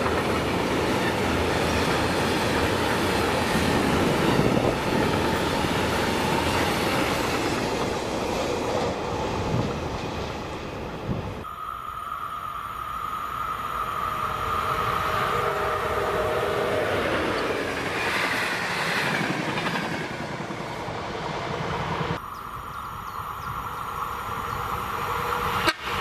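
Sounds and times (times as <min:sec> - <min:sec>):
freight train wheels on rails: 0:00.0 - 0:26.0.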